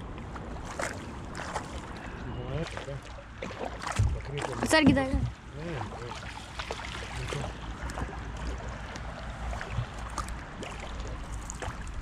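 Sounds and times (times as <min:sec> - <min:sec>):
paddle dipping in water: 0:00.0 - 0:12.0
small splashes and knocks: 0:00.0 - 0:12.0
water splashing along hull: 0:00.0 - 0:12.0.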